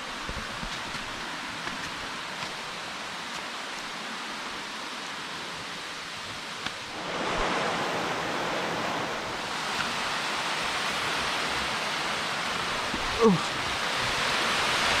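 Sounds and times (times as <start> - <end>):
small waterfall rushing: 0.0 - 15.0.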